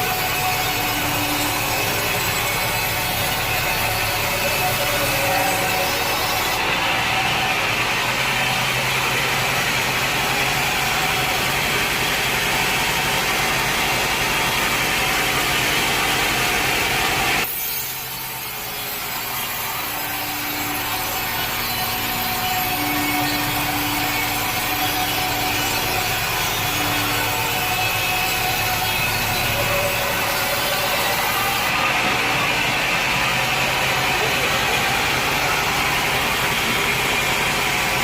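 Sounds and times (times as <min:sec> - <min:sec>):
sawmill saw cutting wood: 0:00.0 - 0:38.0.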